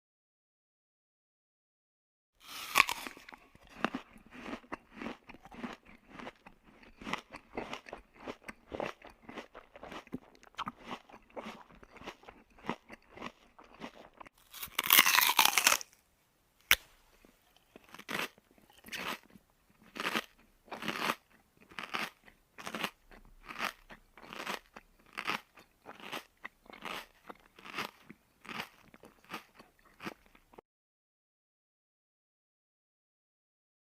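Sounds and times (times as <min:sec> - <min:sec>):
person chewing crunchy food: 0:02.4 - 0:16.0, 0:16.6 - 0:30.6.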